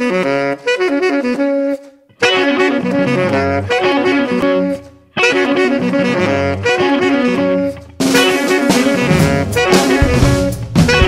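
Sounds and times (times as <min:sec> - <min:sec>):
saxophone-led jazz with brass: 0:00.0 - 0:11.0.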